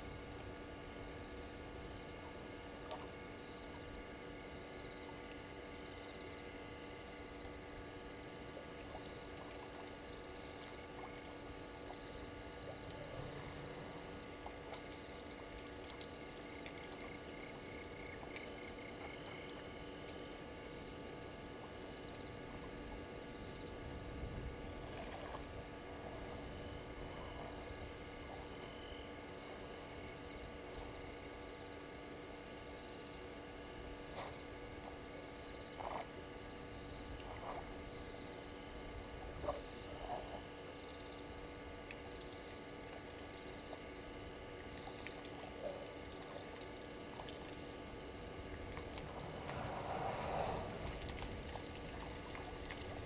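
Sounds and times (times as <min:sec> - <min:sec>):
cricket chirp: 0:00.0 - 0:53.0
crickets trilling: 0:00.0 - 0:53.0.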